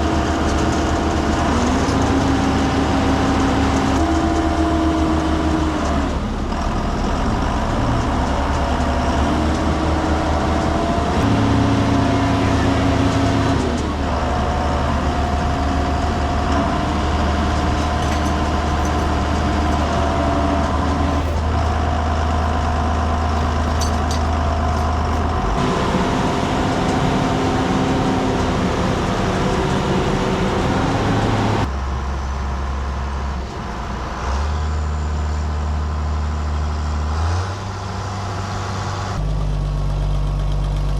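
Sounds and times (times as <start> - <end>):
diesel engines running under load: 0.0 - 40.9.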